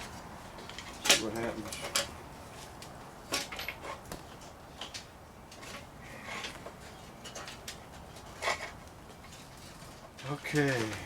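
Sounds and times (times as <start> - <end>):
metal knocks clicks and scrapes: 0.0 - 10.9.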